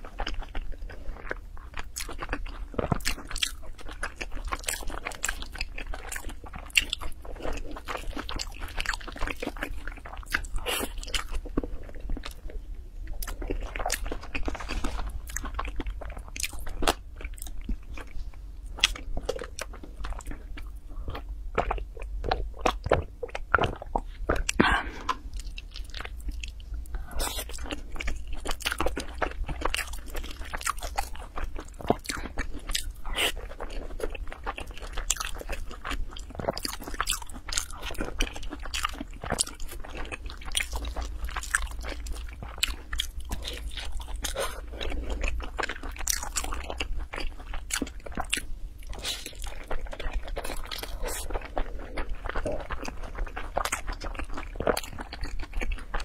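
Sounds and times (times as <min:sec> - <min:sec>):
chewing with crunchy clicks: 0:00.0 - 0:56.0
steady low hum: 0:00.0 - 0:56.0.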